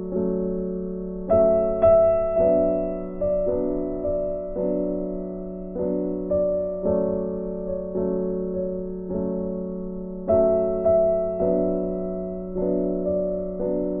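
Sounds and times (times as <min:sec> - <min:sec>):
soft piano keyboard melody: 0:00.0 - 0:14.0.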